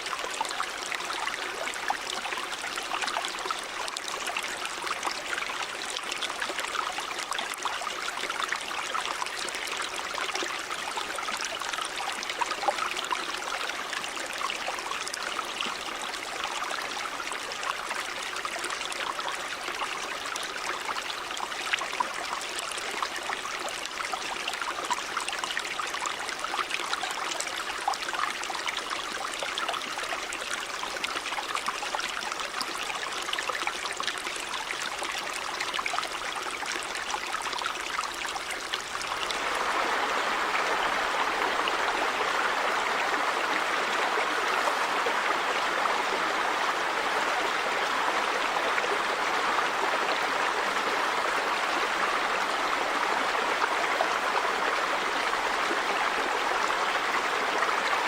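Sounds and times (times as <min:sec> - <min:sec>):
river babbling over stones: 0:00.0 - 0:58.0.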